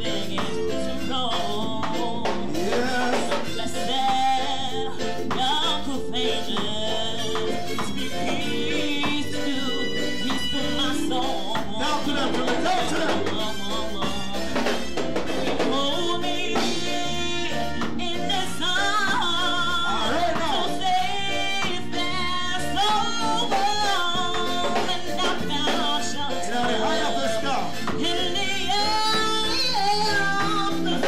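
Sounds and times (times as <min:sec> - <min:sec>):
instrumental backing music: 0:00.0 - 0:31.0
person singing into microphone: 0:00.0 - 0:31.0.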